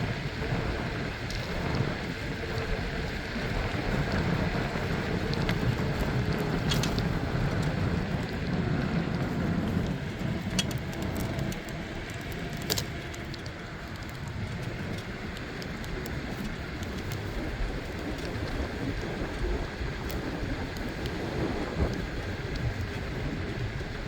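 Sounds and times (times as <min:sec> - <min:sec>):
bicycle road rumble: 0:00.0 - 0:24.0
bike clicks and rattles: 0:00.0 - 0:24.0
wind: 0:00.0 - 0:24.0.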